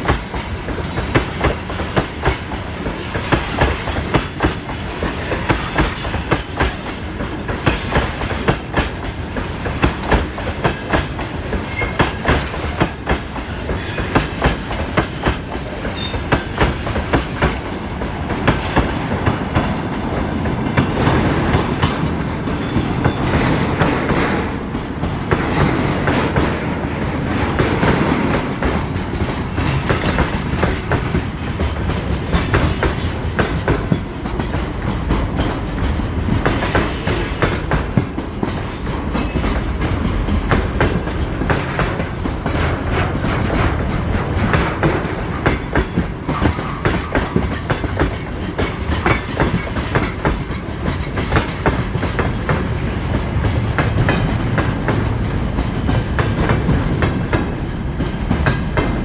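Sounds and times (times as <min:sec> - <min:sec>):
train rolling rumble: 0:00.0 - 0:59.0
train wheels clicking over rail joints: 0:00.0 - 0:59.0.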